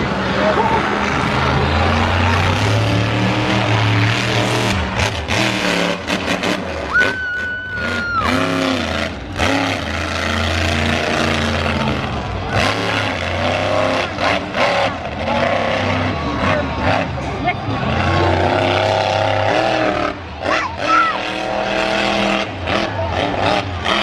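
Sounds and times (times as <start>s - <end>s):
truck engines revving: 0.0s - 24.0s.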